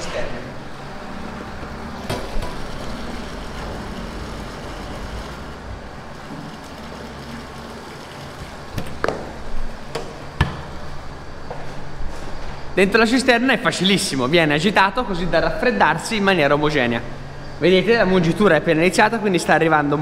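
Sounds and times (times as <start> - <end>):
milk cooling tank humming: 0.0 - 20.0.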